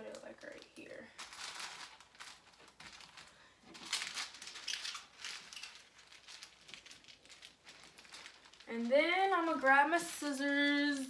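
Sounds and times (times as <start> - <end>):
foil paper crinkling: 0.0 - 11.0.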